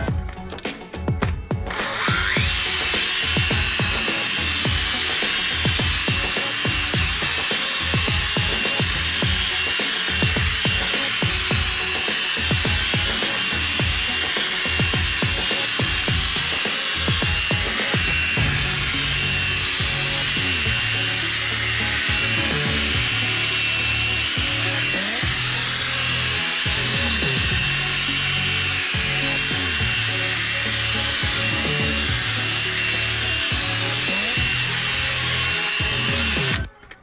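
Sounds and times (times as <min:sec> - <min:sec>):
power drill polishing plastic: 0:01.7 - 0:37.0.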